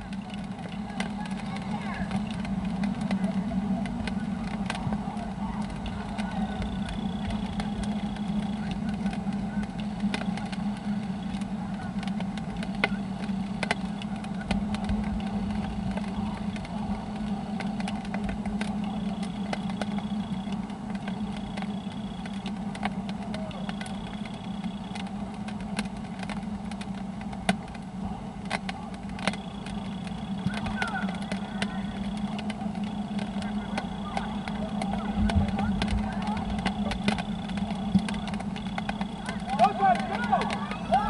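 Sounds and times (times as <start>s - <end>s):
faint clicks: 0.0s - 41.0s
low mechanical hum: 0.0s - 41.0s.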